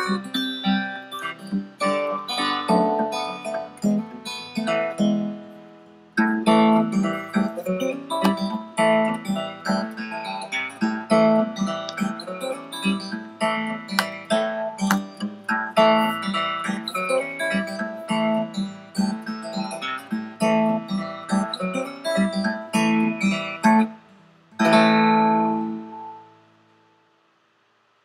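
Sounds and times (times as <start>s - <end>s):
acoustic guitar playing: 0.0s - 27.2s.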